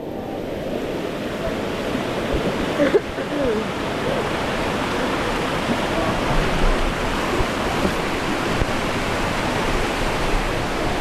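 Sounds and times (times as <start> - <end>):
waterfall cascading over rock: 0.0 - 11.0.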